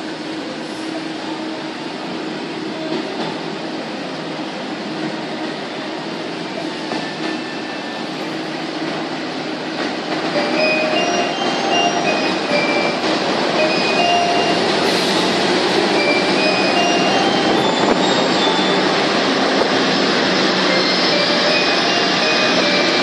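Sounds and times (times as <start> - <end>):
train engine and wheel rumble: 0.0 - 23.0.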